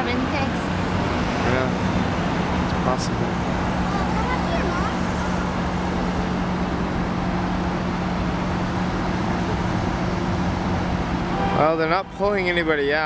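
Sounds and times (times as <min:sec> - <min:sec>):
traffic and engine noise: 0:00.0 - 0:13.0.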